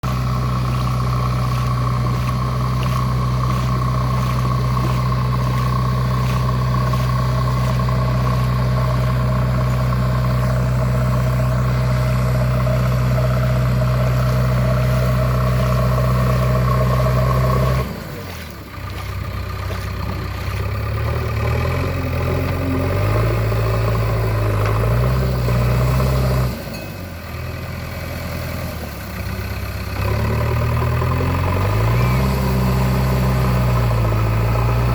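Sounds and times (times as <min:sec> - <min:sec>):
diesel engine running under load: 0:00.0 - 0:34.9.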